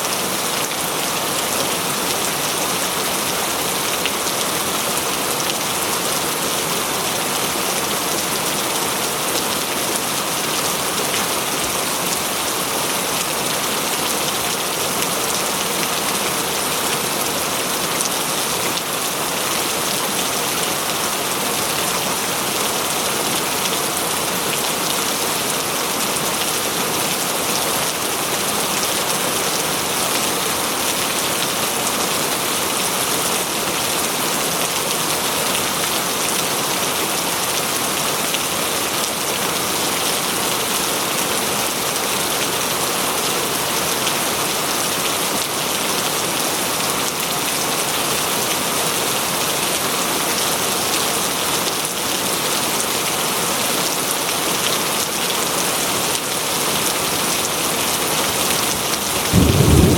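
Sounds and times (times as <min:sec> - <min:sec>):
rain falling on forest: 0:00.0 - 0:59.9.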